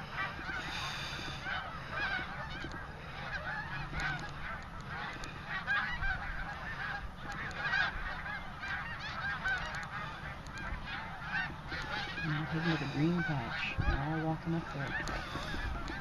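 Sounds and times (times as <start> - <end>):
flock of geese honking: 0.0 - 16.0.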